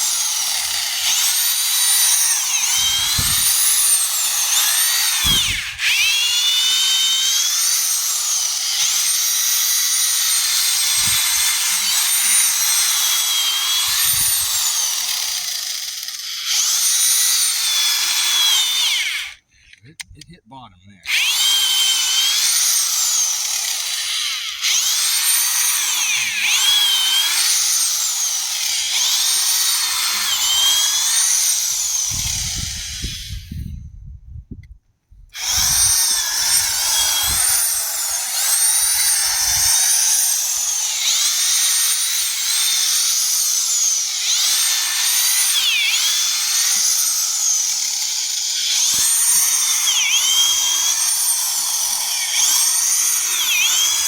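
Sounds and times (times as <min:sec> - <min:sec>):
hammer drill motor whining: 0:00.0 - 0:20.2, 0:21.0 - 0:33.8, 0:35.4 - 0:54.0.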